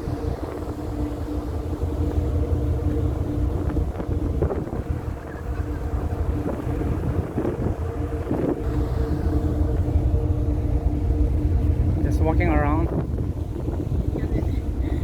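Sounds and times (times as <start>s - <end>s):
ferry engines droning: 0.0s - 15.0s
wind buffeting microphone: 0.0s - 15.0s.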